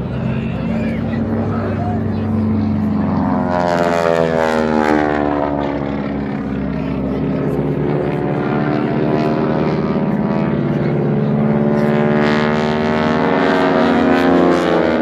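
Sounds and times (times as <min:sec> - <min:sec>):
propeller airplane engine: 0:00.0 - 0:15.0.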